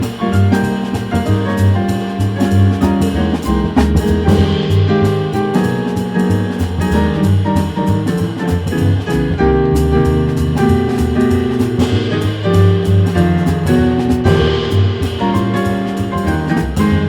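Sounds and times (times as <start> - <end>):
drum kit cymbals: 0.0 - 17.0
piano chords and lines: 0.0 - 17.0
walking double bass: 0.0 - 17.0.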